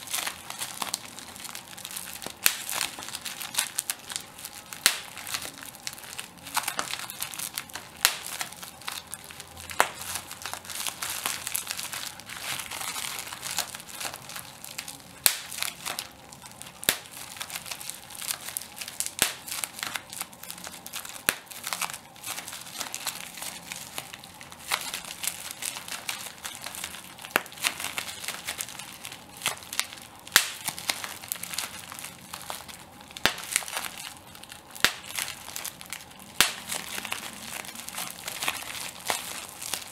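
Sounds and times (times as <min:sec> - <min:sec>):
bubble wrap crinkling: 0:00.0 - 0:39.9
bubble wrap popping: 0:00.0 - 0:39.9.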